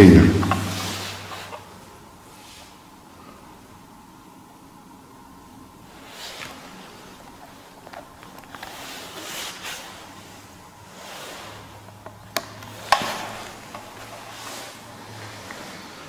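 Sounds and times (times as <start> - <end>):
faint low hum: 0.0 - 16.0
rustling and handling noise: 0.3 - 3.3, 5.9 - 16.0.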